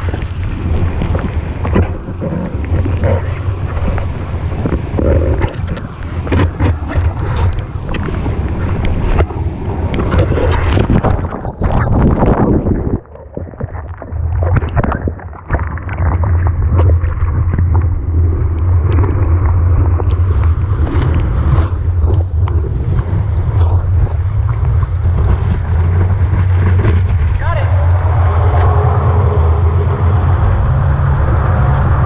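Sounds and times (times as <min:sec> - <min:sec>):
rushing water: 0:00.0 - 0:32.0
water splashes: 0:00.0 - 0:32.0
wind buffeting microphone: 0:00.0 - 0:32.0.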